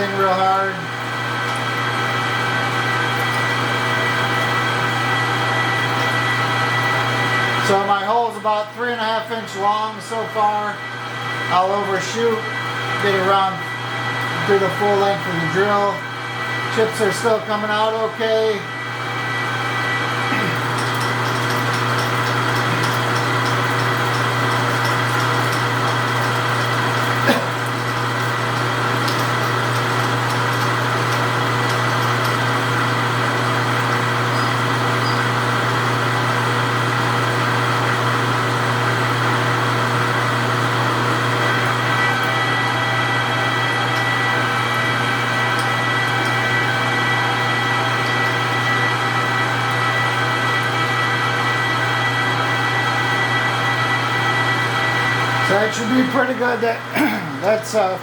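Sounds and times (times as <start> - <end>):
metal lathe humming: 0.0 - 58.0.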